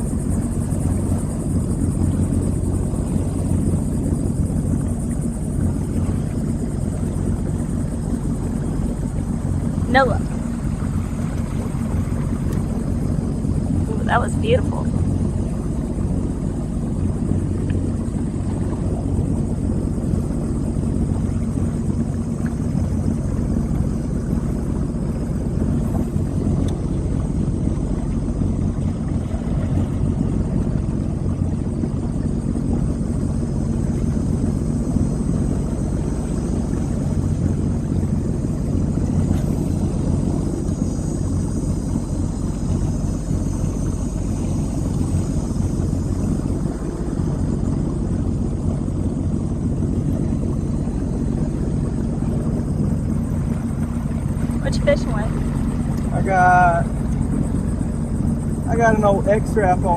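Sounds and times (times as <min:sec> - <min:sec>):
watercraft engine humming: 0:00.0 - 0:59.9.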